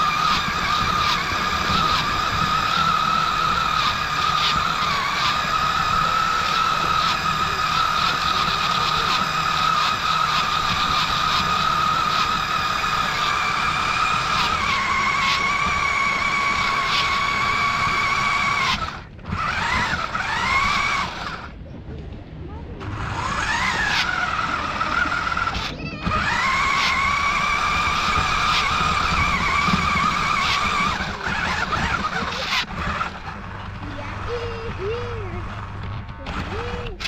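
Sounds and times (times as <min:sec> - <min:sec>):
toy truck electric motor whine: 0:00.0 - 0:21.6, 0:22.8 - 0:37.0.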